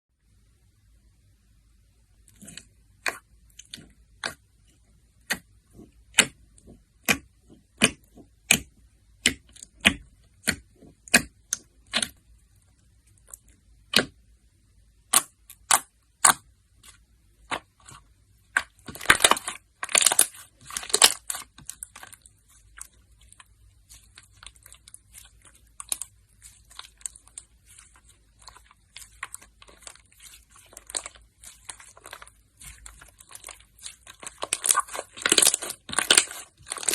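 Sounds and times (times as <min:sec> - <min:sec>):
slime crackling: 0:02.2 - 0:14.2, 0:15.0 - 0:36.9.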